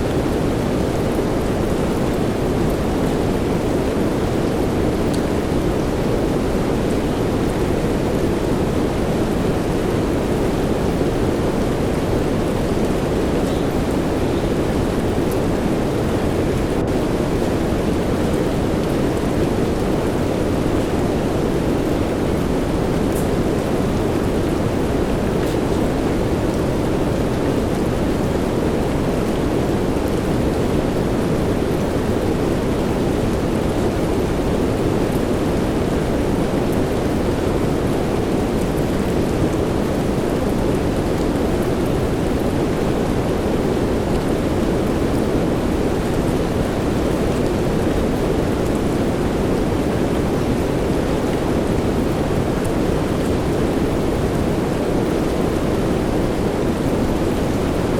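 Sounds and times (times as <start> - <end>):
soft rain: 0.0 - 57.9
white noise hiss: 0.0 - 57.9.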